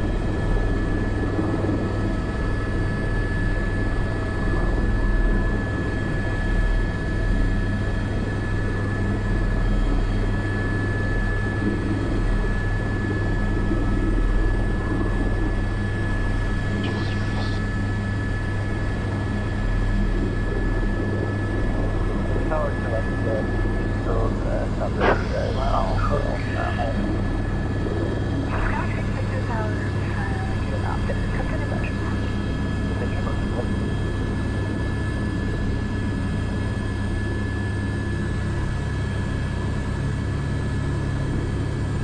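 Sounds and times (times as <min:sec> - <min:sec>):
helicopter engine and rotors: 0:00.0 - 0:42.0.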